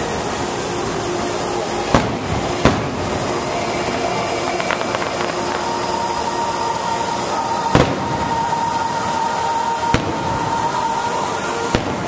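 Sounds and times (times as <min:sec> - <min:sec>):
fireworks bursting with booms: 0:00.0 - 0:12.0
steady background noise: 0:00.0 - 0:12.0.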